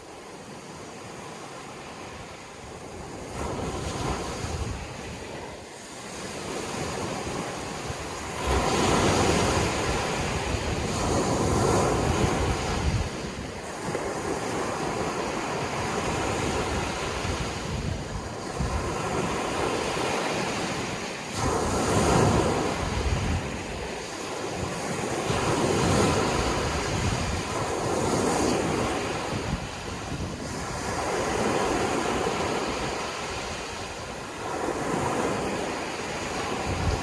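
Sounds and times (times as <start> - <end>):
sea waves surging and washing: 0.0 - 37.0.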